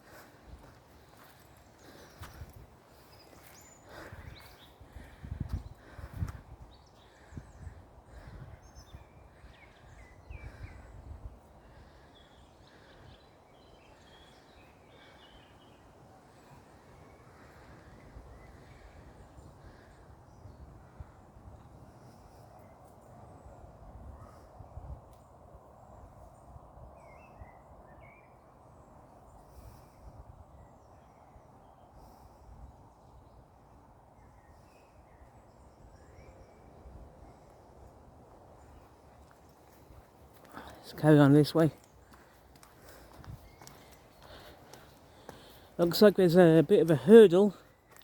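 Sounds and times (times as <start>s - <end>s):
birds chirping: 0.0s - 20.7s, 25.8s - 48.0s.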